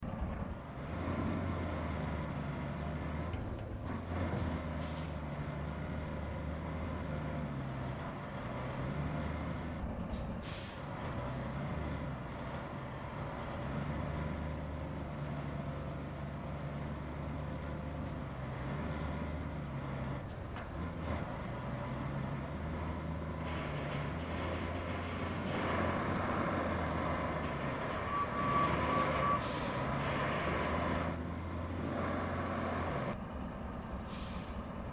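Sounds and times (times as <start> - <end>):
truck diesel engine under load: 0.0 - 34.9.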